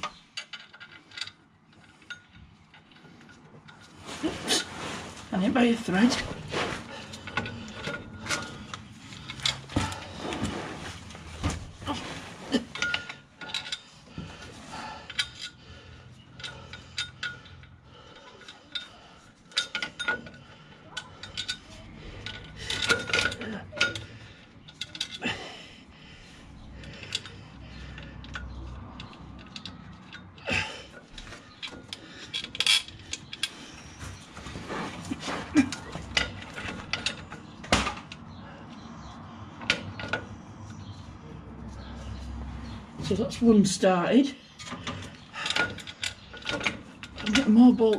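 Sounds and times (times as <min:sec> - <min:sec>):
metallic clinks and scrapes: 0:00.0 - 0:43.6, 0:44.4 - 0:47.9.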